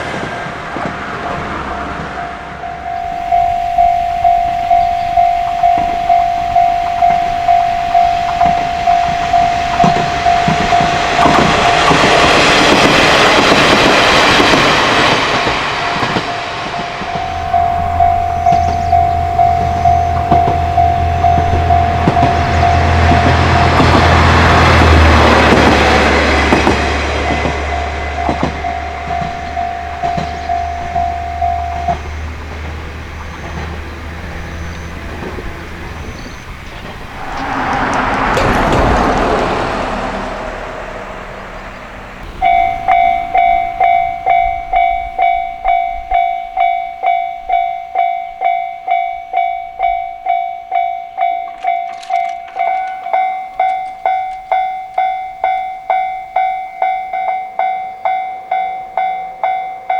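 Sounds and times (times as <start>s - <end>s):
train passing: 0.0s - 59.9s
crossing warning alarm: 0.1s - 59.9s.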